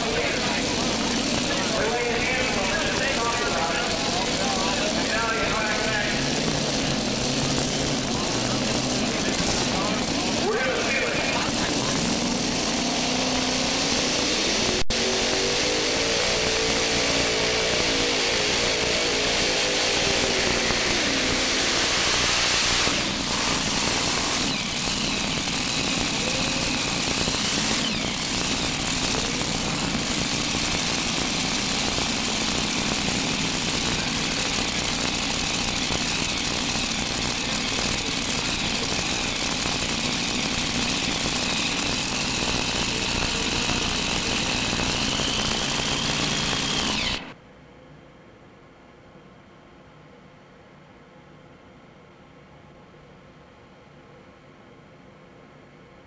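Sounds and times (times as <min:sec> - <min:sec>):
tractor engines running hard: 0:00.0 - 0:47.4.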